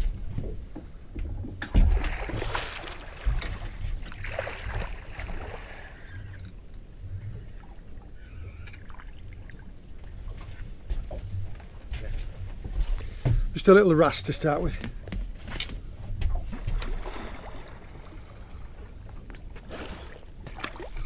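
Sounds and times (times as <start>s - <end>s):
water lapping around boat: 0.0s - 21.0s.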